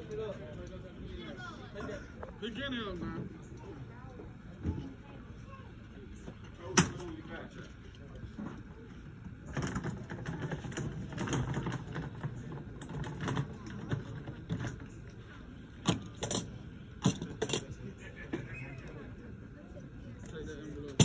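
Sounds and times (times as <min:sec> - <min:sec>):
faint background voices: 0:00.0 - 0:21.0.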